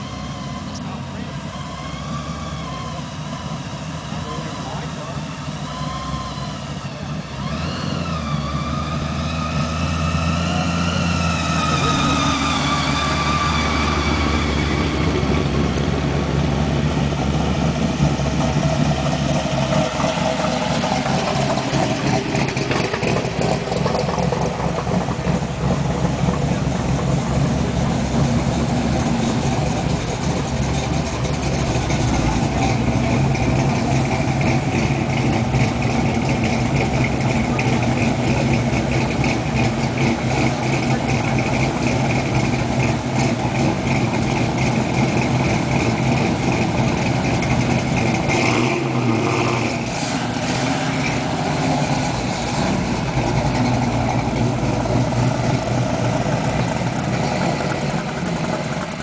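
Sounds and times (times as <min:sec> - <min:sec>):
car engines rumbling past: 0:00.0 - 0:59.0.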